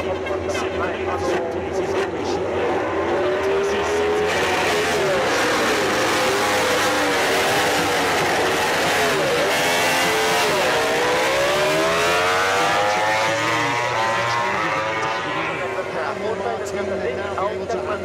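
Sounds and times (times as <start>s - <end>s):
racing motorcycles at high revs: 0.2s - 17.0s.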